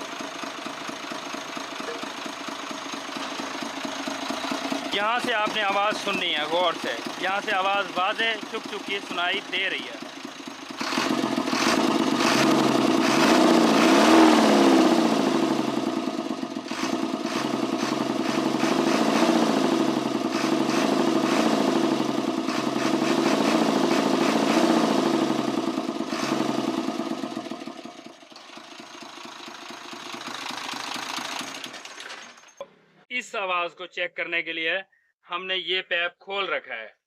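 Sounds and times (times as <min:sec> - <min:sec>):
diesel engine idling with chuffing: 0:00.0 - 0:32.9.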